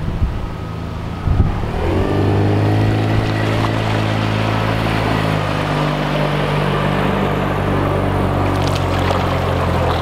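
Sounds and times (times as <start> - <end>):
outboard motor throttling up: 0.1 - 10.0.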